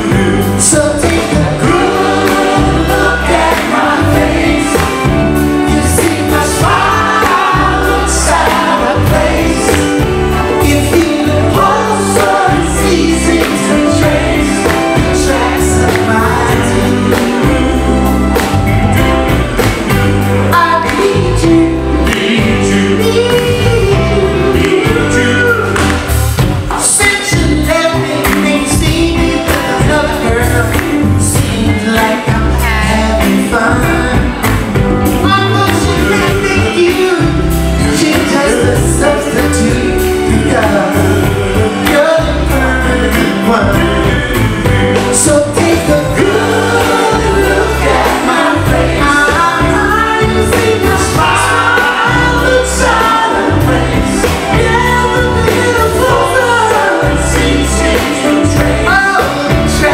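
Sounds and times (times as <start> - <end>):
bass line: 0.0 - 59.9
group vocal harmonies: 0.0 - 59.9
lead voice singing: 0.0 - 59.9
steady drum beat: 0.0 - 59.9.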